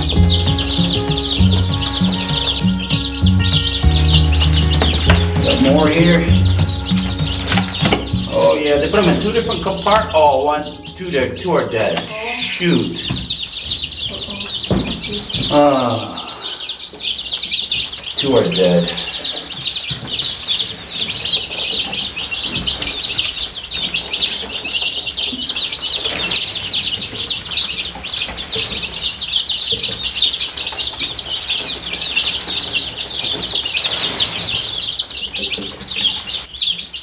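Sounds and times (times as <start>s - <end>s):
chicks peeping: 0.0s - 37.0s.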